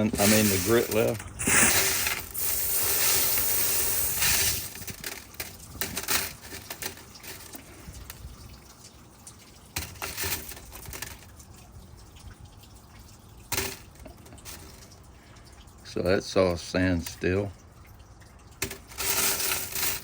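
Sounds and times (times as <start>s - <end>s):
tap water splashing over stones: 0.0s - 2.4s, 3.5s - 20.0s.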